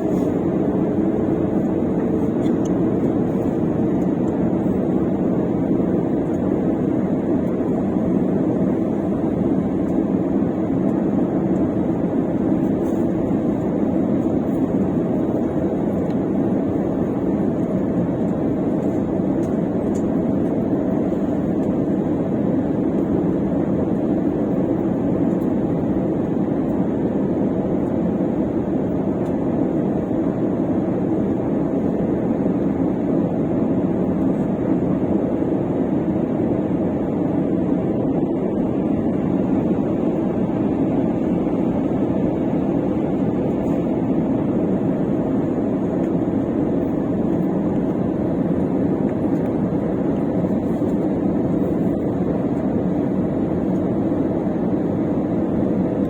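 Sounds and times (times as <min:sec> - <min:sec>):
jet engines droning in cabin: 0:00.0 - 0:56.0.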